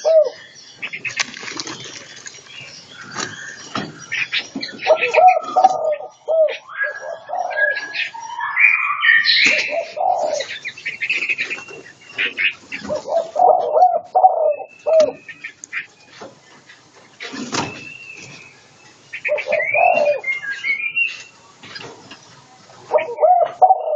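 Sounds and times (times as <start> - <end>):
songbirds singing and calling: 0.0 - 23.9.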